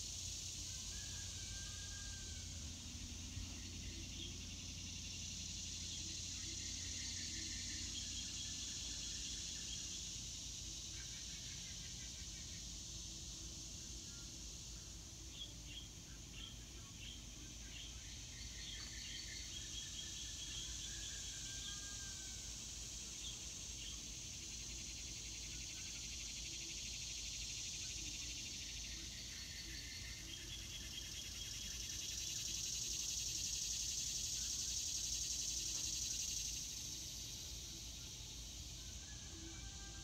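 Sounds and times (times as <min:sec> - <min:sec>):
insect chorus buzzing: 0:00.0 - 0:40.0.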